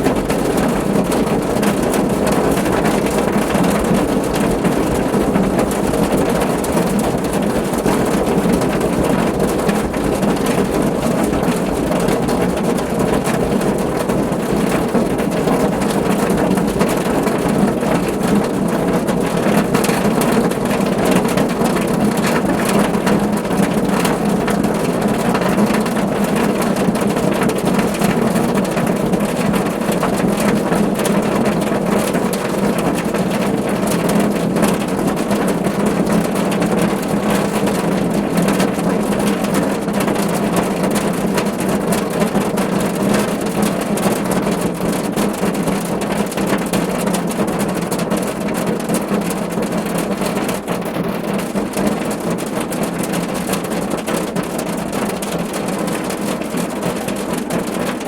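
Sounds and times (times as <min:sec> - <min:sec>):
rain on a car roof: 0:00.0 - 0:58.0.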